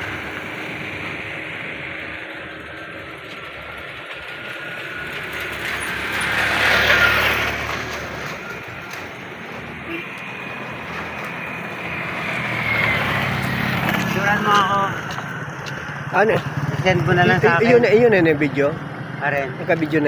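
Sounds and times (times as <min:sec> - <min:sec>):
outdoor background noise: 0:00.0 - 0:20.0
vehicle passing by: 0:00.0 - 0:20.0.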